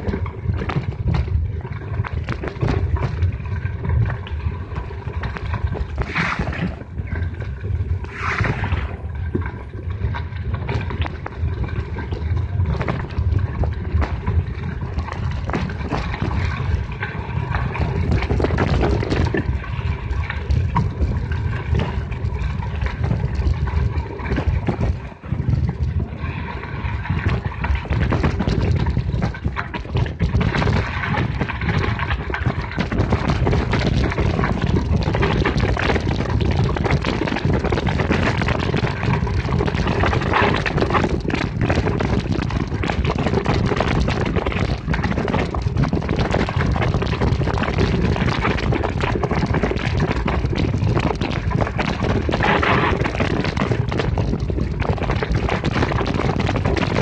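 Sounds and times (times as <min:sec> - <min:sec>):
bike rattling and knocking: 0:00.0 - 0:06.7, 0:12.4 - 0:26.1, 0:26.8 - 0:57.0.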